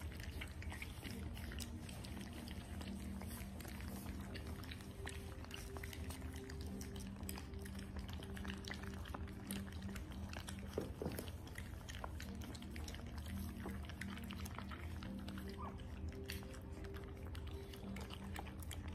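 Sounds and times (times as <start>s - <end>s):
puppies eating wet food: 0.0s - 18.9s.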